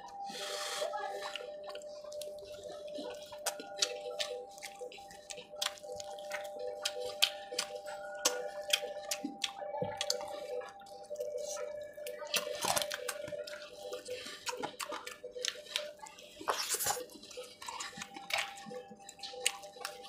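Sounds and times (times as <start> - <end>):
wet chewing and lip-smacking: 0.0 - 20.0.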